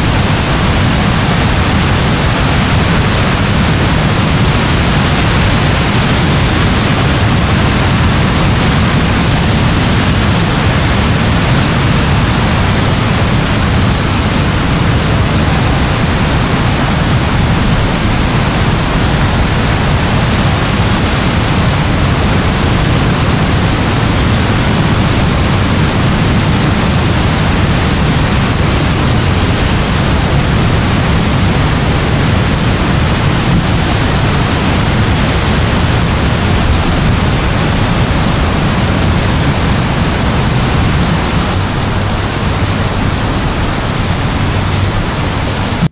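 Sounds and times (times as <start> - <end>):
heavy rain hiss: 0.0 - 45.9.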